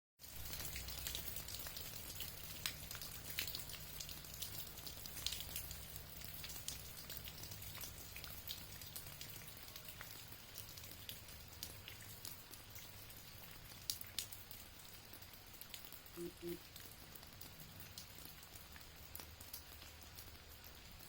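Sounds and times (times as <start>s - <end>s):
rain drops tapping on a surface: 0.2s - 21.0s.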